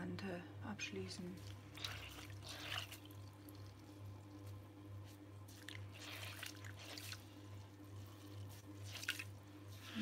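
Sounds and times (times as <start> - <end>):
wet clay squishing and dripping: 1.4 - 10.0.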